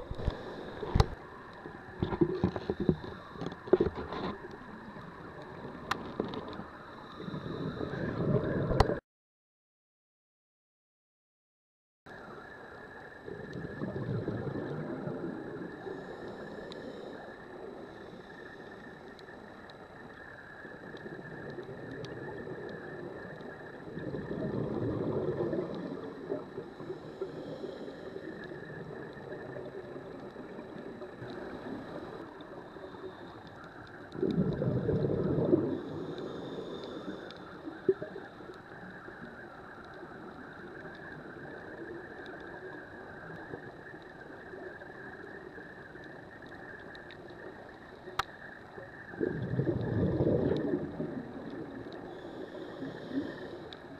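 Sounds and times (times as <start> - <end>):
exhaled bubbles underwater: 0.0 - 9.0, 13.1 - 19.4, 20.0 - 53.9
steady underwater hiss: 0.0 - 9.0, 12.1 - 53.9.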